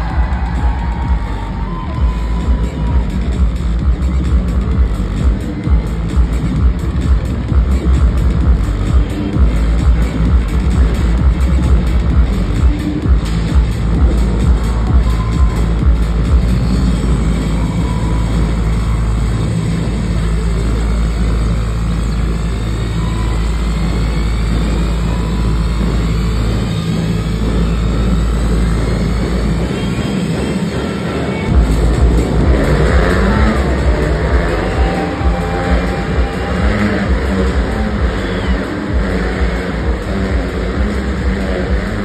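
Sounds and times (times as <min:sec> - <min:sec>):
motorcycle engines droning: 0:00.0 - 0:42.0.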